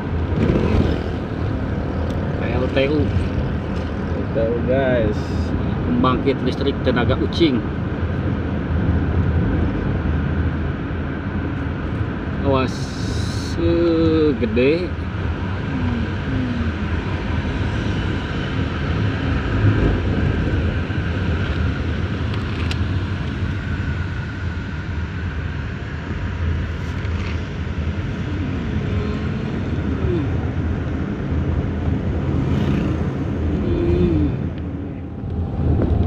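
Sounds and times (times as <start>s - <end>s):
car engine and tyre rumble: 0.0s - 36.0s.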